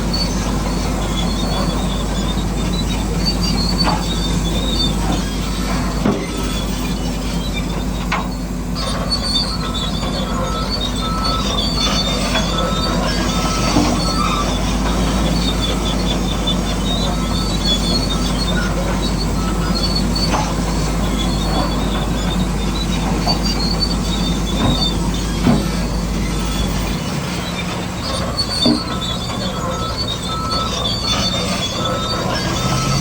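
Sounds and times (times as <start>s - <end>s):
bulldozer engine hum: 0.0s - 33.0s
high-pitched squeals: 1.0s - 33.0s.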